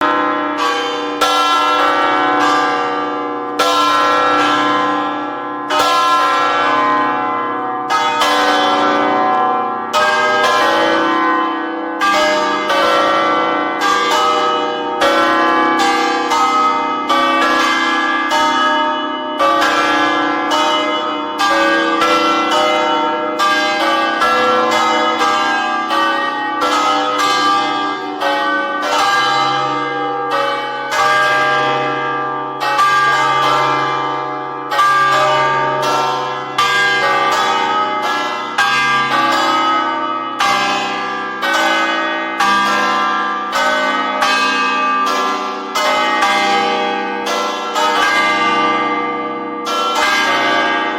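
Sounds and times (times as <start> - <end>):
church bells ringing: 0.0 - 50.9.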